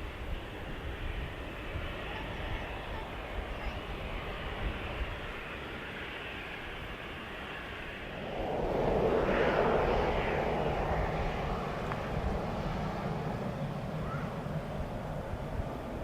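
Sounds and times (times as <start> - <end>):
jet airliner engines roaring: 0.0 - 16.0.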